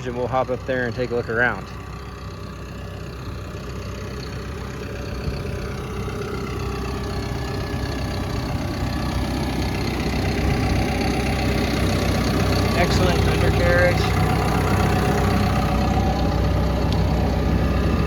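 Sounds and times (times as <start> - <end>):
dozer diesel engine running: 0.0 - 18.0.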